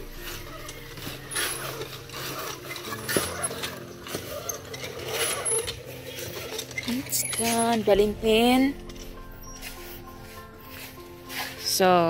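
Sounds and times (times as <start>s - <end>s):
trowel scraping wet concrete: 0.0s - 8.0s, 8.9s - 12.0s.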